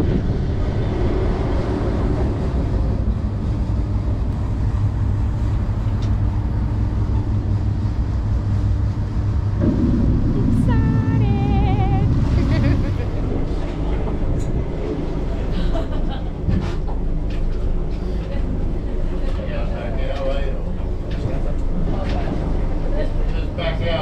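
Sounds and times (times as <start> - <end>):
boat engines droning: 0.0 - 24.0
rushing water and air: 0.0 - 24.0.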